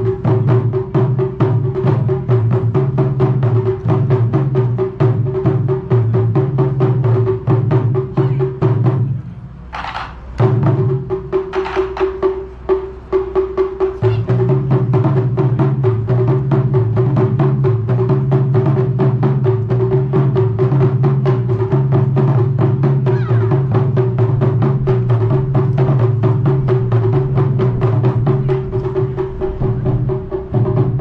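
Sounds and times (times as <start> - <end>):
taiko drums beating: 0.0 - 31.0.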